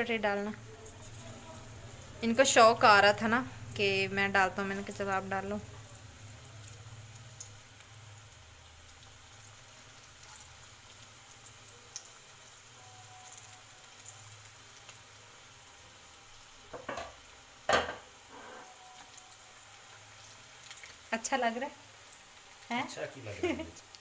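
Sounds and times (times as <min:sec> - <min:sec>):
batter sizzling in hot oil: 0:00.0 - 0:24.0.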